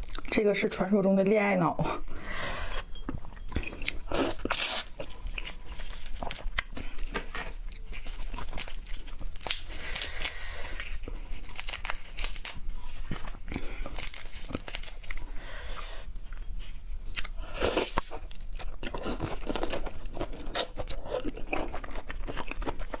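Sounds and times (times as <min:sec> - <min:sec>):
seafood being crunched and chewed: 0:00.0 - 0:00.4, 0:02.2 - 0:23.0.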